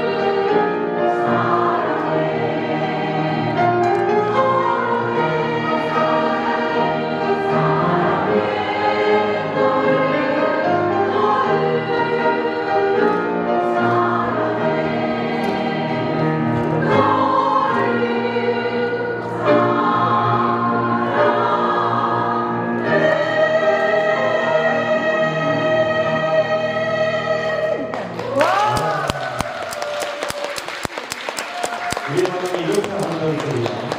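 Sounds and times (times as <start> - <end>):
women's choir singing: 0.0 - 28.2.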